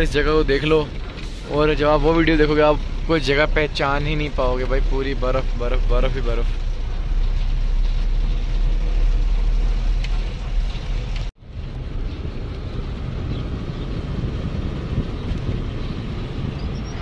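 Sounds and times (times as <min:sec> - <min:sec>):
road noise inside cab: 0:00.0 - 0:17.0
truck engine rumble: 0:00.0 - 0:17.0.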